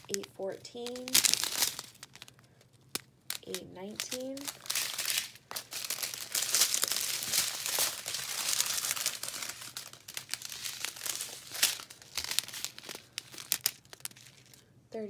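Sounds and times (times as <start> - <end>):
plastic bags crinkling: 0.0 - 14.7.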